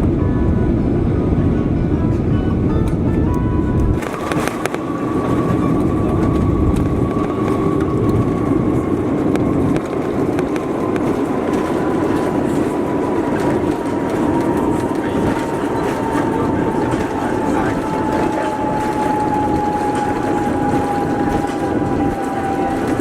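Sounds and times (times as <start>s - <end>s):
jet engine whine: 0.0s - 23.0s
wheels rumbling on runway: 0.0s - 23.0s.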